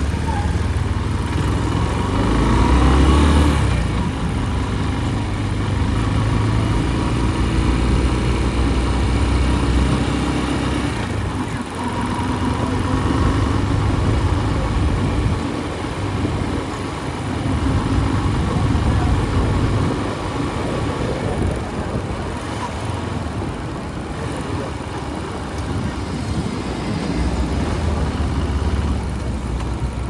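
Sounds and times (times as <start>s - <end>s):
motorbike engine rumble: 0.0s - 30.0s
road and traffic noise: 0.0s - 30.0s.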